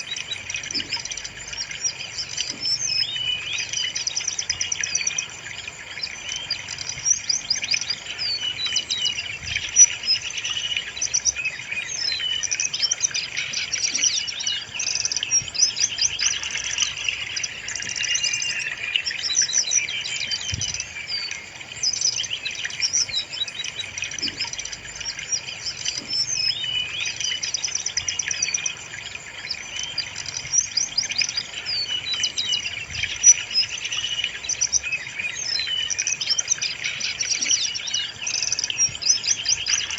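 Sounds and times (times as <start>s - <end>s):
bird song with rapid chirps and trills: 0.0s - 39.9s.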